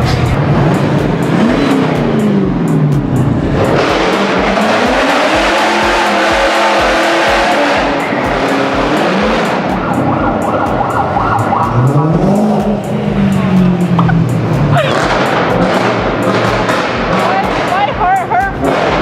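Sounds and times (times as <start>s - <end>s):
car engines revving: 0.0s - 19.0s
music with steady beat: 0.0s - 19.0s.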